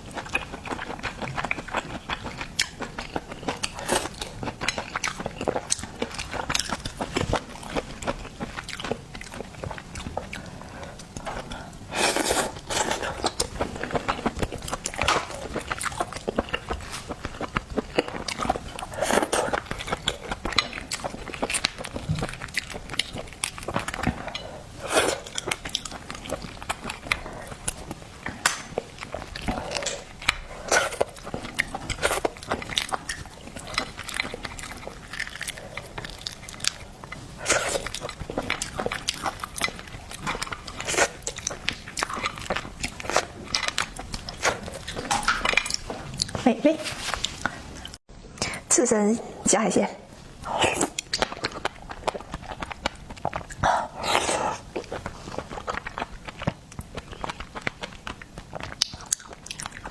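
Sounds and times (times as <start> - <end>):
person chewing seafood: 0.0 - 48.6, 50.2 - 59.9.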